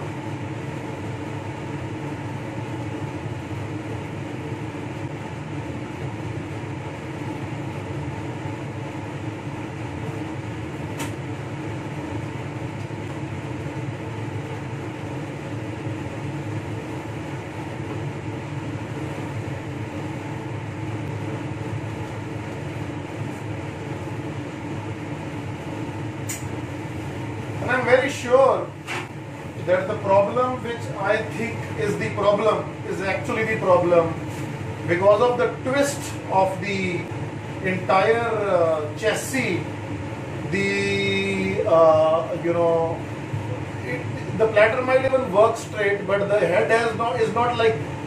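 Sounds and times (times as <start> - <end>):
blower fan running: 0.0 - 48.0.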